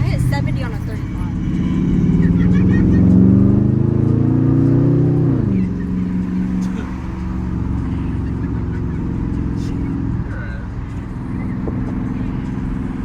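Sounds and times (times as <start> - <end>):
car engine revving and droning: 0.0 - 13.0.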